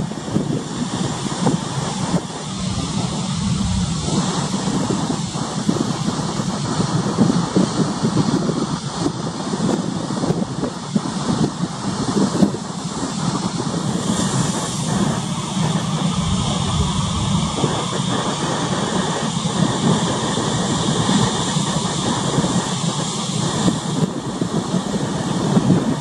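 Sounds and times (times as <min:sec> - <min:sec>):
choppy sea: 0:00.0 - 0:26.0
wind: 0:00.0 - 0:26.0.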